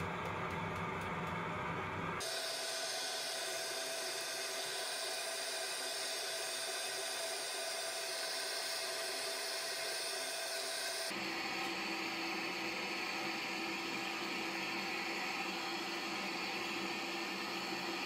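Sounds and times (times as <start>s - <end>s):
gas furnace hiss and whir: 0.0s - 18.0s.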